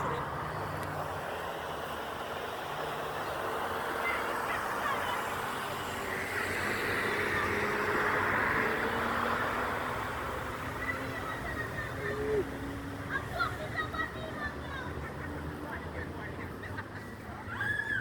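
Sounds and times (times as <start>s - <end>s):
road noise: 0.0s - 18.0s
vehicle engine hum: 0.0s - 18.0s.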